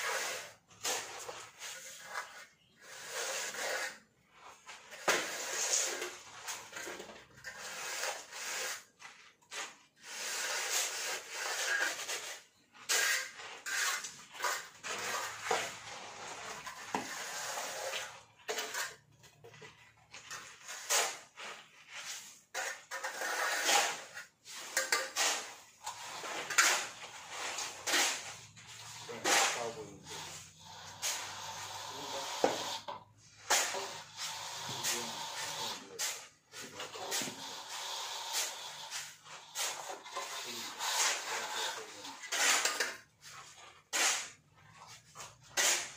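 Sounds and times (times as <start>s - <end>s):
screed bar scraping wet mortar: 0.0s - 45.9s.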